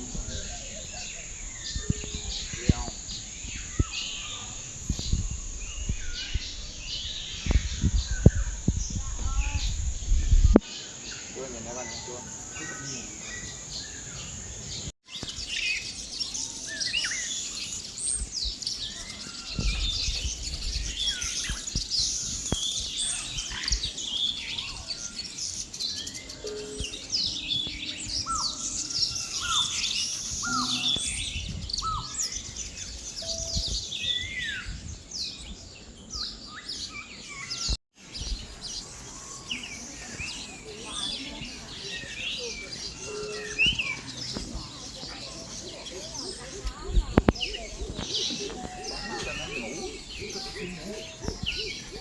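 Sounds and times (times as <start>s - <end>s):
birds chirping and calling: 0.0s - 52.0s.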